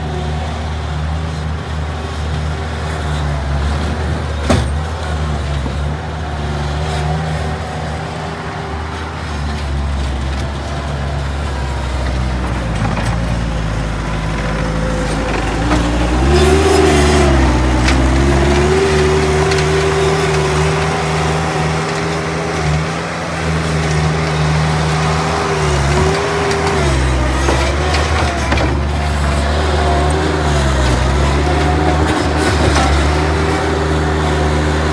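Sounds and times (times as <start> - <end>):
skid steer diesel engine revving: 0.0 - 34.9.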